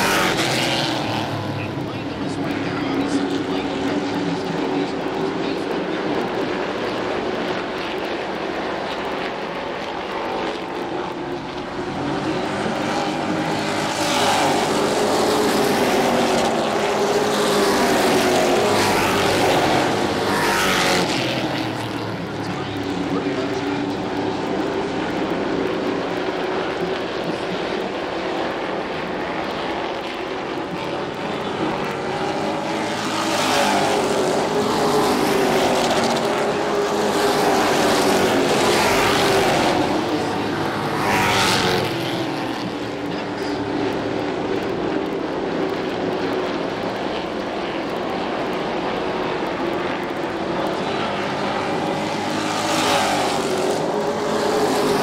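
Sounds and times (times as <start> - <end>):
race trucks engine drone: 0.0 - 55.0.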